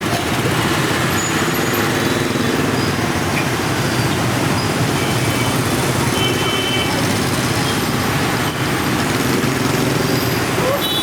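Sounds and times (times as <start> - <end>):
motorbike and scooter traffic hum: 0.0 - 11.0.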